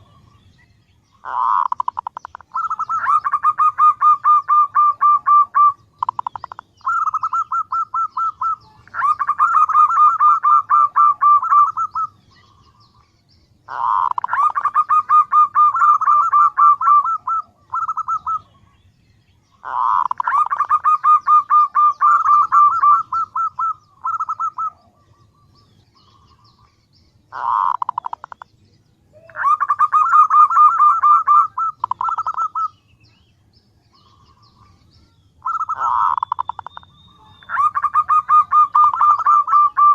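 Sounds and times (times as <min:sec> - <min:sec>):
dove rattling calls: 0:00.0 - 0:13.0, 0:13.6 - 0:18.8, 0:19.5 - 0:28.5, 0:29.2 - 0:32.9, 0:35.4 - 0:39.9.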